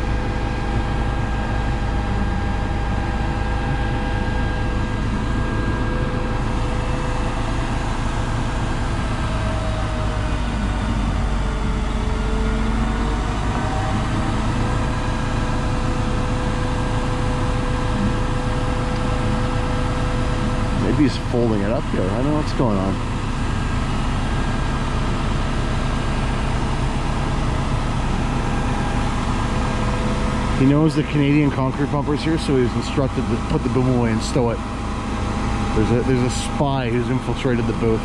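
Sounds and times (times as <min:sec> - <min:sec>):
concrete pump engine droning: 0:00.0 - 0:38.0.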